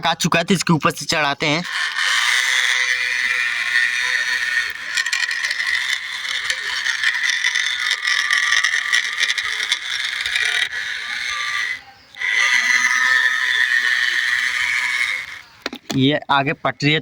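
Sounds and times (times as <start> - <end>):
toy tractor electric motor whining: 0.0 - 16.0.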